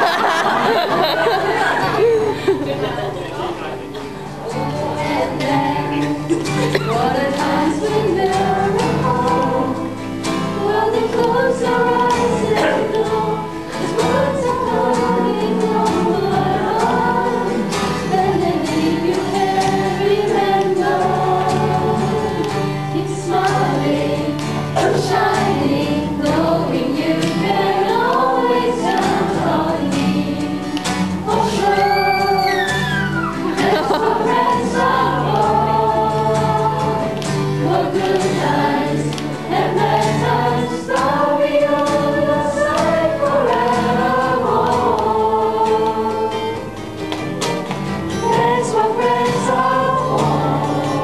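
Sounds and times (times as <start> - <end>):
women singing together: 0.0 - 3.2, 4.4 - 46.9, 48.1 - 51.0
acoustic guitar playing chords: 0.0 - 51.0.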